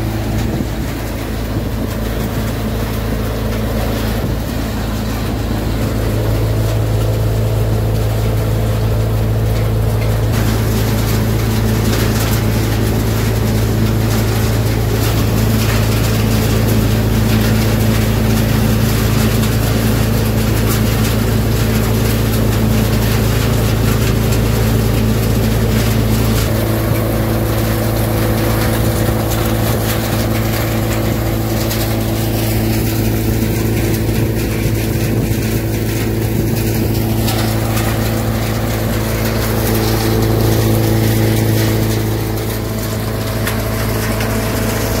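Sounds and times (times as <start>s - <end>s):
thresher machine humming: 0.0s - 45.0s.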